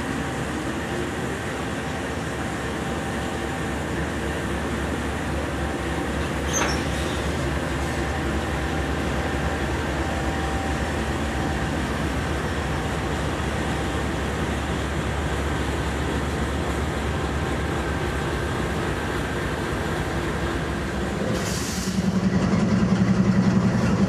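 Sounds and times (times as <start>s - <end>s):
diesel locomotive engine drone: 0.0s - 24.0s
train wheels rumbling on rails: 0.0s - 24.0s.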